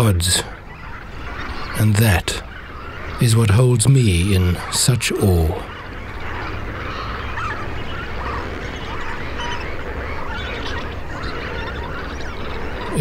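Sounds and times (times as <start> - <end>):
flamingo flock calling: 0.0 - 13.0.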